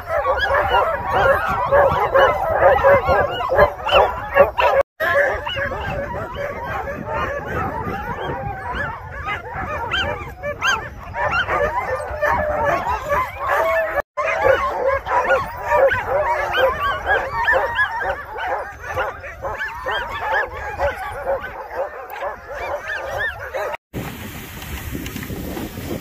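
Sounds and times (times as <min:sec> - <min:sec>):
sled dogs barking and whining: 0:00.0 - 0:23.8.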